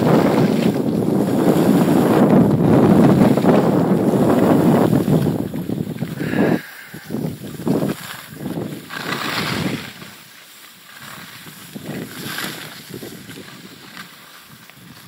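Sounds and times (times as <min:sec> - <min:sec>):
skis swishing through snow: 0:00.0 - 0:15.0
wind noise on microphone: 0:00.0 - 0:15.0.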